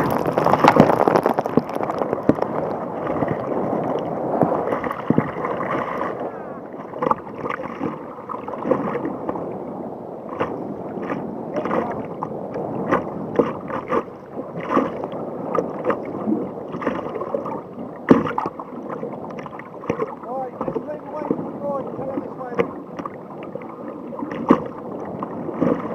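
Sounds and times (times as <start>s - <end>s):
sharp water splashes: 0.0s - 9.5s, 10.3s - 25.9s
water sloshing around kayak: 0.0s - 25.9s.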